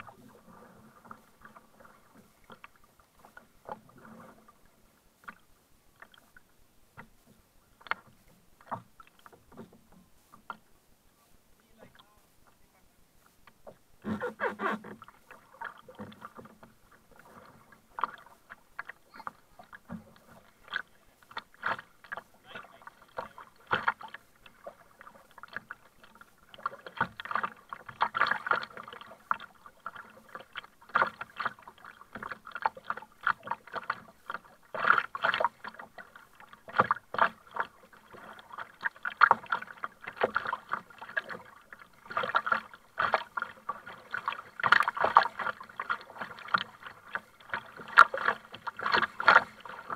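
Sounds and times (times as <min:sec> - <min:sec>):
paddle splashing in water: 0:00.0 - 0:49.9
water sloshing against kayak hull: 0:00.0 - 0:49.9.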